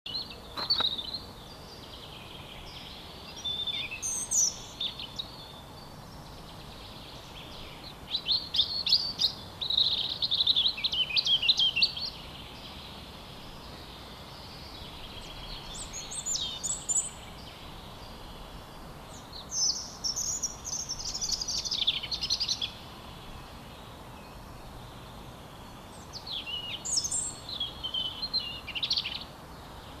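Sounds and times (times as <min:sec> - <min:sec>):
robin singing: 0:00.1 - 0:30.0
steady outdoor hiss: 0:00.1 - 0:30.0.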